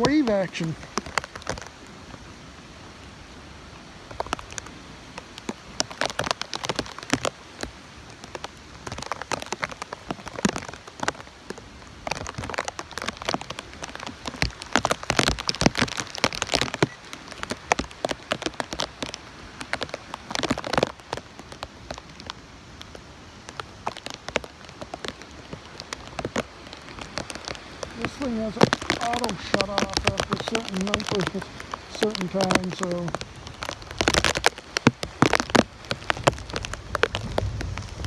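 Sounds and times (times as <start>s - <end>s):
heavy rain patter: 0.0s - 38.0s.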